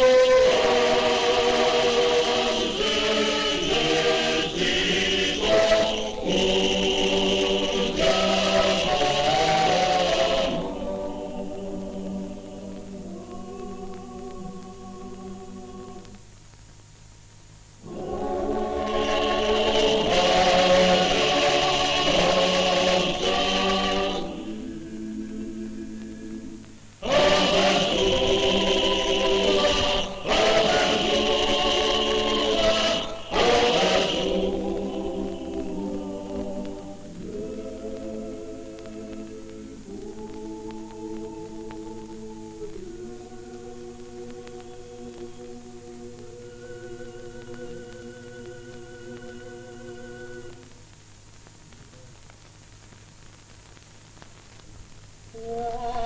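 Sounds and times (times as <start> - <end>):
choir singing in parts: 0.0 - 16.2, 17.8 - 50.7, 55.3 - 56.0.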